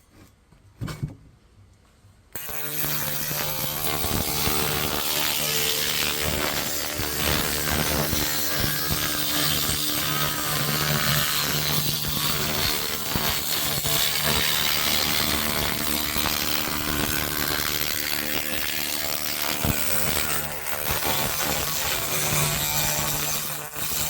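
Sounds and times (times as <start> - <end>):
laser cleaner crackling hiss: 2.4 - 24.0.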